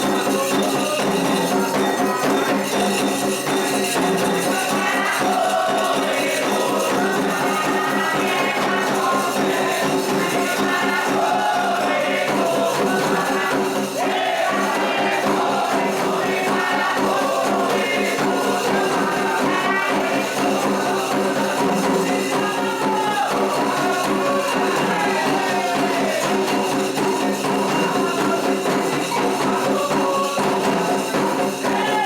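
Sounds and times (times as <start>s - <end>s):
group of voices singing: 0.0s - 32.0s
percussion: 0.0s - 32.0s.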